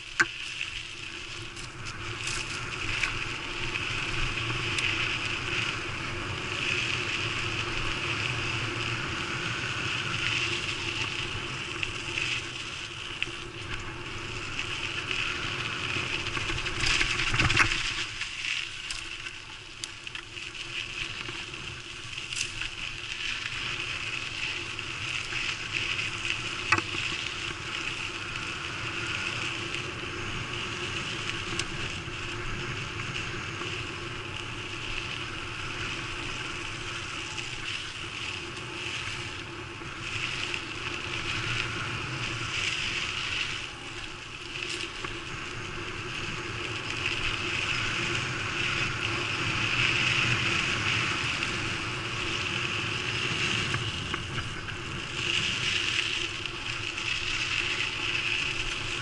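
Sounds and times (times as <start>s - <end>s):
bike tyres and drivetrain buzzing: 0.0s - 59.0s
wind: 0.0s - 59.0s.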